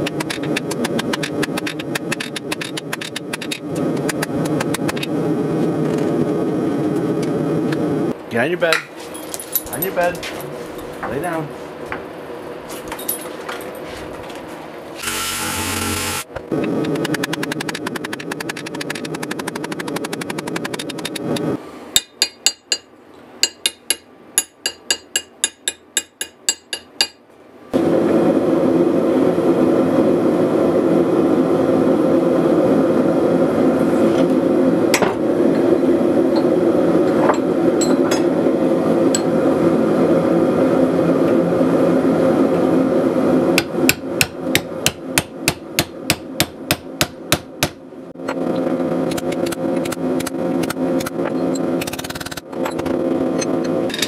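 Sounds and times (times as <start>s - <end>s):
loud steady hum: 0.0s - 54.0s.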